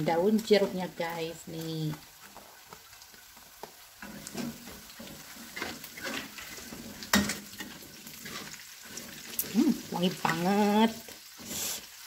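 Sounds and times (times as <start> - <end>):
aromatics sizzling in hot oil: 0.0 - 12.0
spatula stirring and scraping: 1.9 - 12.0.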